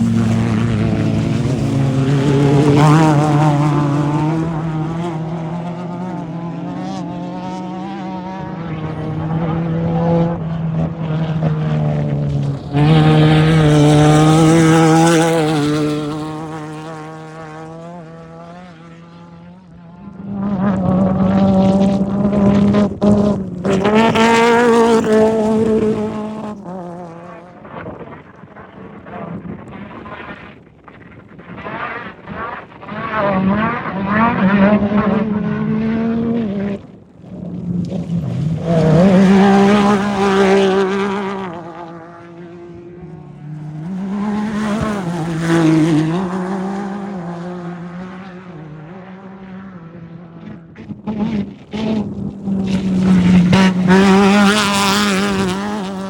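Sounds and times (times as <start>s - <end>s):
race vehicles passing at speed: 0.0s - 56.0s.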